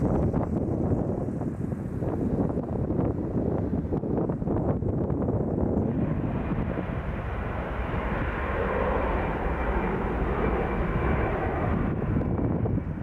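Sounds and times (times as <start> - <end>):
faint jet whine: 0.0 - 13.0
jet engine rumble: 0.0 - 13.0.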